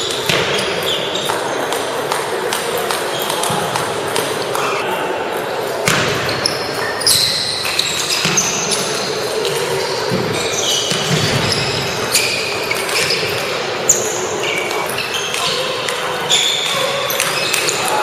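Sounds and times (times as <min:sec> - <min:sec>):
murmur of voices: 0:00.0 - 0:18.0.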